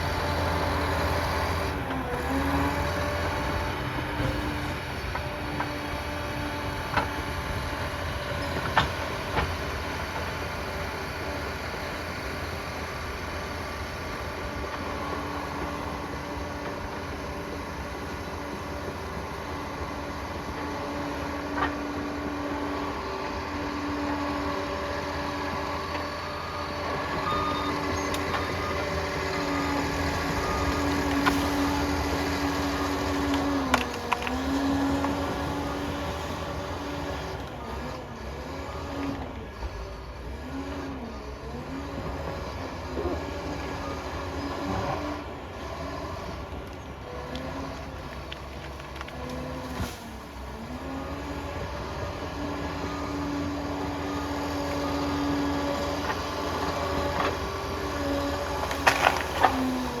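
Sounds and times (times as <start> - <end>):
dozer diesel engine running: 0.0 - 60.0.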